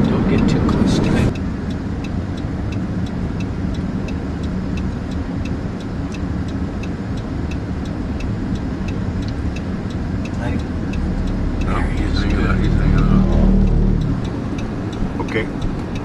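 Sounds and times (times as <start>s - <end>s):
car road and engine rumble: 0.0s - 16.0s
light even ticking: 0.0s - 16.0s.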